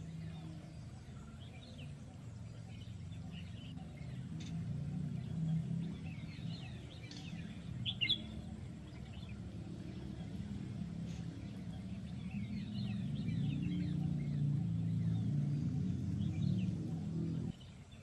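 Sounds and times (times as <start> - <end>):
low rushing background: 0.0 - 18.0
songbirds chirping: 0.0 - 18.0.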